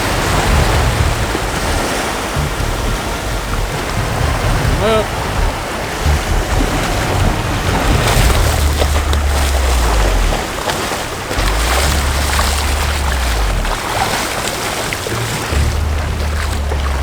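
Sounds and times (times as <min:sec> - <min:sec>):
ocean surf washing on beach: 0:00.0 - 0:17.0
wind buffeting microphone: 0:00.0 - 0:17.0.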